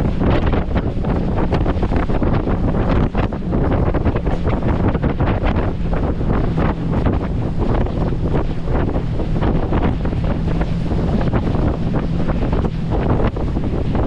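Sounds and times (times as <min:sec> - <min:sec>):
water rushing and splashing: 0:00.0 - 0:14.0
wind buffeting microphone: 0:00.0 - 0:14.0.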